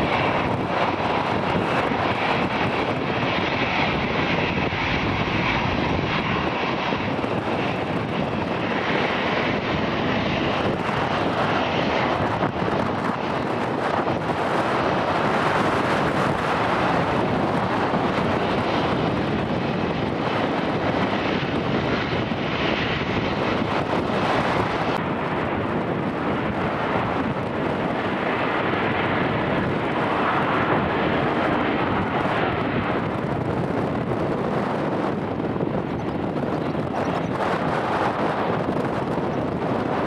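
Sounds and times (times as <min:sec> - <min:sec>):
airliner engines rushing: 0:00.0 - 0:40.0
wind buffeting microphone: 0:00.0 - 0:40.0.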